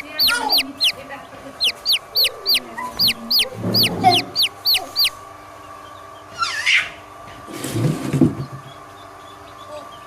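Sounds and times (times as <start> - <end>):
baby chicks peeping: 0.0 - 10.0.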